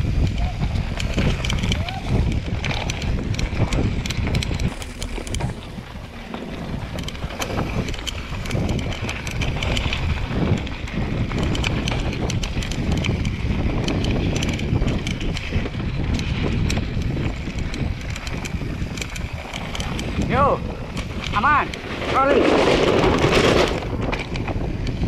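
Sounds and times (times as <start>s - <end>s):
bike rattling and clicking: 0.0s - 25.0s
bike tyres rumbling on dirt: 0.0s - 25.0s
wind on microphone: 0.0s - 25.0s.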